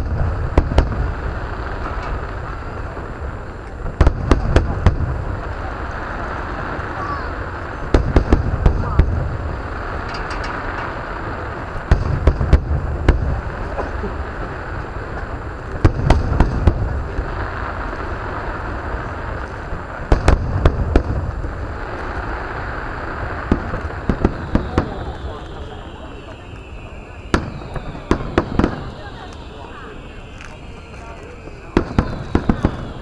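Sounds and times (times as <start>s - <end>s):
background hiss and rumble: 0.0s - 33.0s
fireworks bursting: 0.0s - 33.0s.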